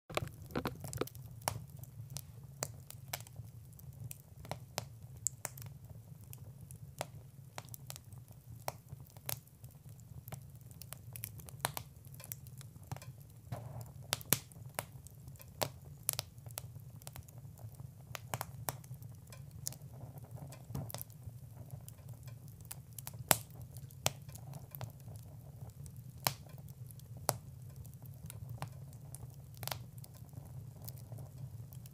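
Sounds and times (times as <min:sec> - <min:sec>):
wood fire crackling: 0:00.1 - 0:31.9.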